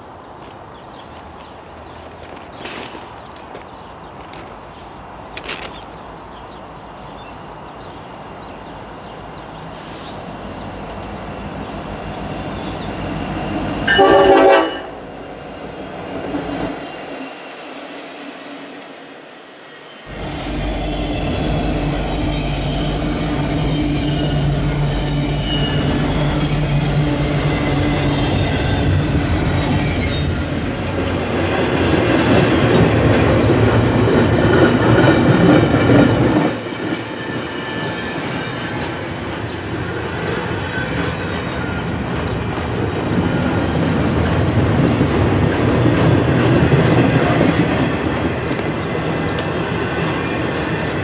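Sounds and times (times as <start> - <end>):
rail cars rumbling and clattering: 0.0 - 19.3, 20.0 - 51.0
diesel locomotive engine drone: 6.1 - 51.0.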